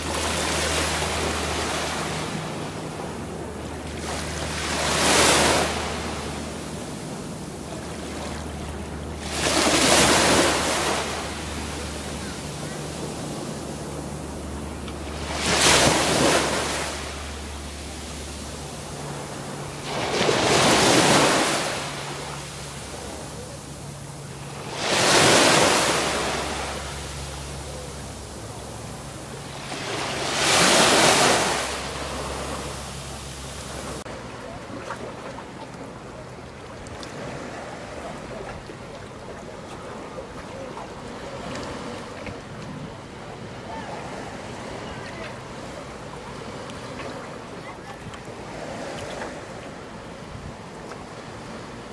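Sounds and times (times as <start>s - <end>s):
small waves washing up beach: 0.0s - 51.9s.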